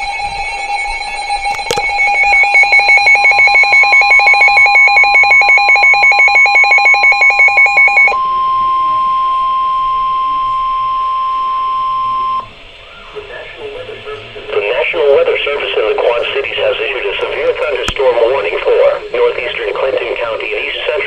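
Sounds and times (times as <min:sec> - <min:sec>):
rapid electronic beeping alarm: 0:00.0 - 0:21.0
steady electronic warning tone: 0:00.0 - 0:21.0.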